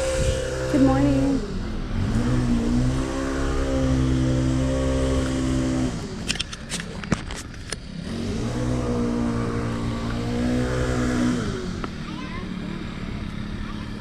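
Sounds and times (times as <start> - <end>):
string trimmer revving: 0.0 - 14.0.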